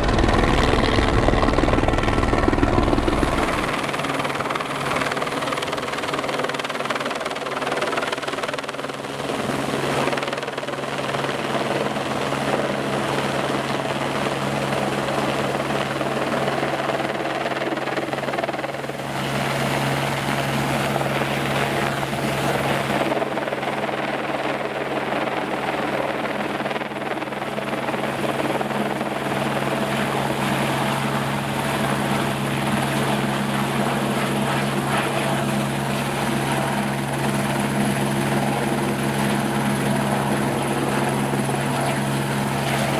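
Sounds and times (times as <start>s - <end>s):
helicopter rotor and engine hum: 0.0s - 42.9s.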